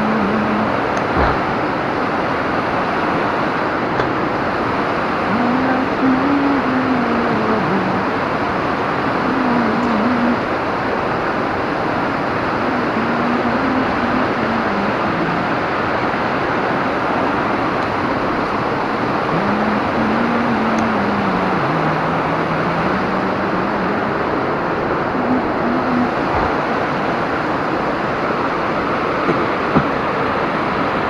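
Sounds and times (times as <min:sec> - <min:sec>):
water rushing over rocks: 0:00.0 - 0:31.0.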